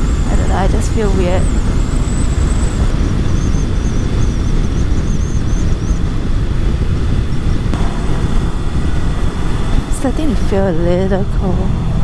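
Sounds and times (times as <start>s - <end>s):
motorcycle engine and road noise: 0.0s - 12.0s
wind rushing over microphone: 0.0s - 12.0s.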